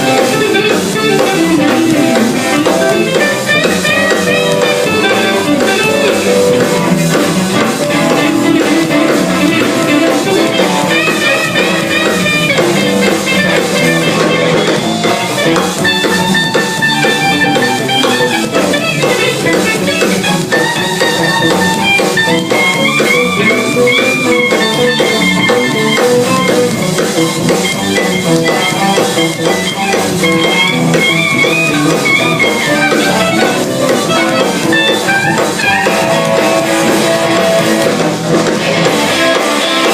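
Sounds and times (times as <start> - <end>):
drum kit: 0.0 - 39.9
electric guitar melodic lines: 0.0 - 39.9.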